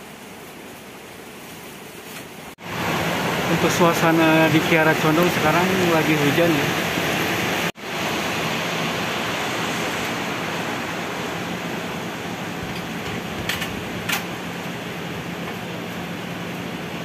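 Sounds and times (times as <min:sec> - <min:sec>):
air conditioning hiss: 0:00.0 - 0:17.0.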